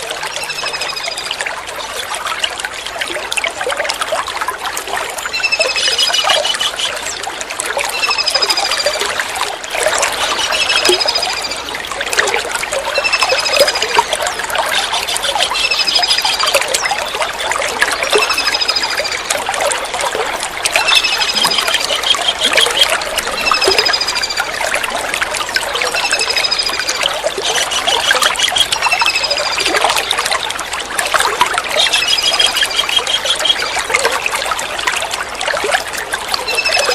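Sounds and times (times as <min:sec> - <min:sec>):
trickling running water: 0:00.0 - 0:36.9.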